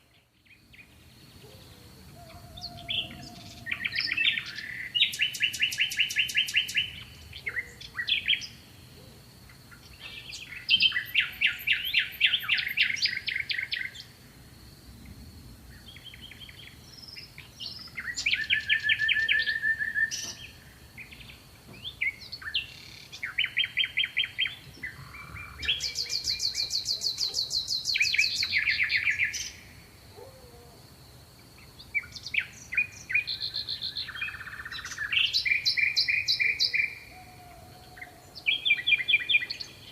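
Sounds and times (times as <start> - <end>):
songbirds trilling: 0.1 - 14.2, 15.8 - 30.7, 31.5 - 39.9.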